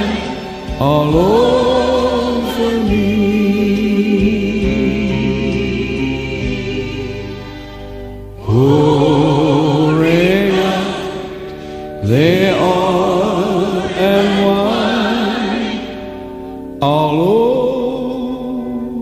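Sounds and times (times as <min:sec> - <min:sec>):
solo voice singing with vibrato: 0:00.0 - 0:07.7, 0:08.4 - 0:16.2
sustained chord: 0:00.0 - 0:19.0.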